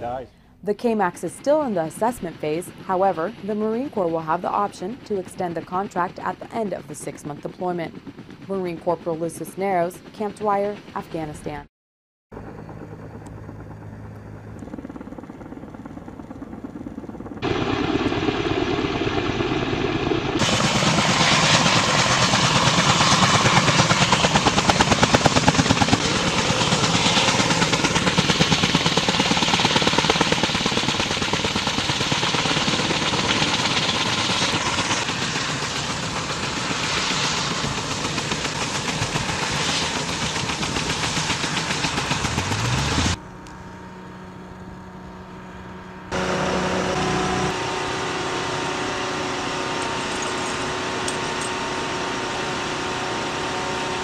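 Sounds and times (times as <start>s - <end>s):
helicopter rotor chop: 0.0s - 11.7s, 12.3s - 54.0s.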